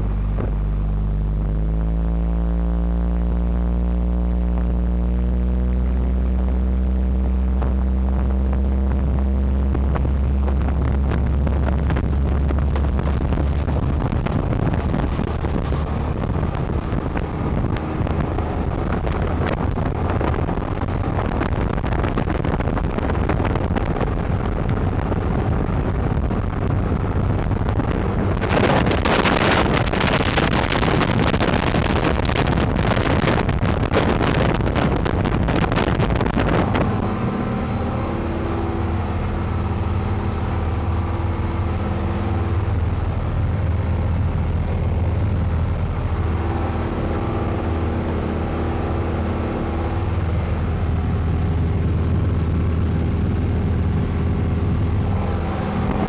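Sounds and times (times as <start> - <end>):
boat engine drone: 0.0 - 56.0
rushing wind and water: 7.6 - 56.0.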